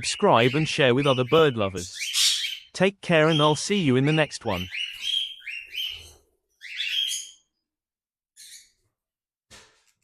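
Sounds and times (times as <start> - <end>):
parrots chirping: 0.0 - 7.6, 8.4 - 8.9.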